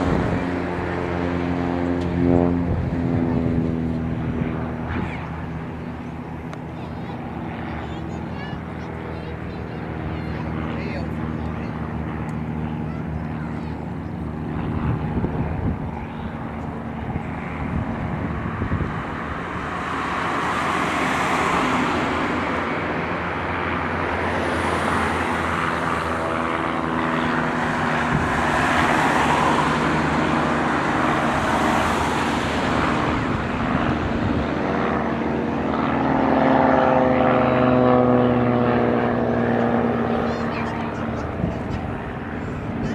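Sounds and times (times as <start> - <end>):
propeller airplane engines: 0.0 - 42.9.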